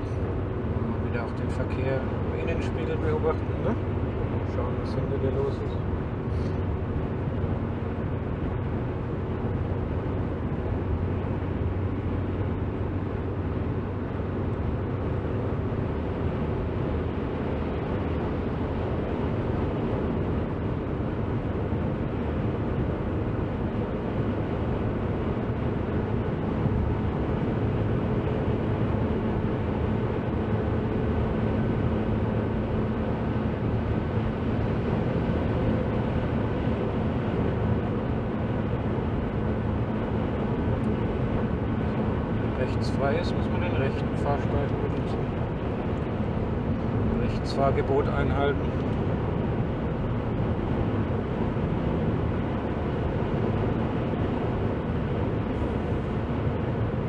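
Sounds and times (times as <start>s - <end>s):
low engine drone: 0.0s - 57.0s
road and wind noise in car: 0.0s - 57.0s.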